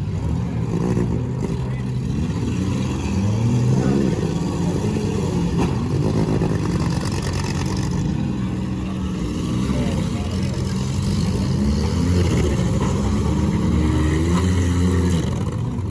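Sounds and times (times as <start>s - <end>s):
car engines revving: 0.0s - 15.9s.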